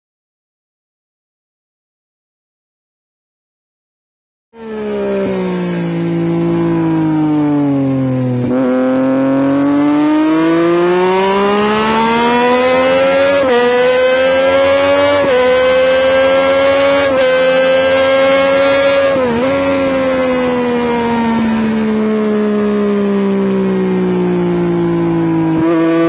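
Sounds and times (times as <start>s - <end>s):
motorcycle engine accelerating: 4.6s - 26.0s.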